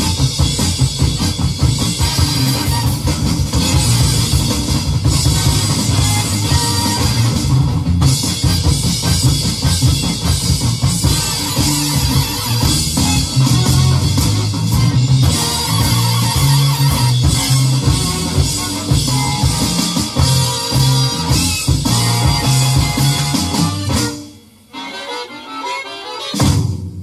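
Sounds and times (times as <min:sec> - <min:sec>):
electronic drums with band track: 0:00.0 - 0:24.8, 0:26.2 - 0:27.0.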